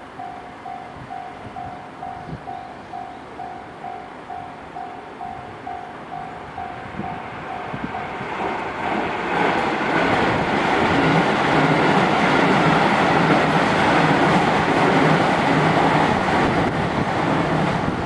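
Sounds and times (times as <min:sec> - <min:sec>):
train passing: 0:00.0 - 0:18.0.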